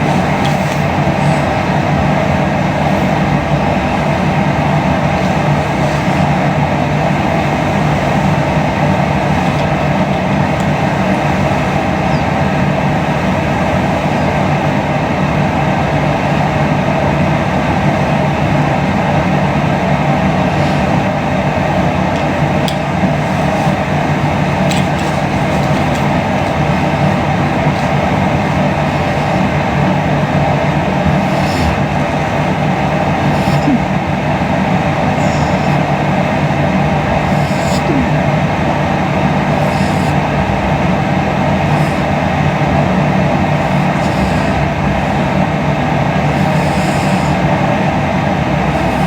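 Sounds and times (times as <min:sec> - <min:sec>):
hiss: 0:00.0 - 0:14.5, 0:20.2 - 0:34.0, 0:35.0 - 0:36.3, 0:37.1 - 0:38.2, 0:39.2 - 0:47.7, 0:48.6 - 0:49.0
steady rumbling noise: 0:00.0 - 0:49.0.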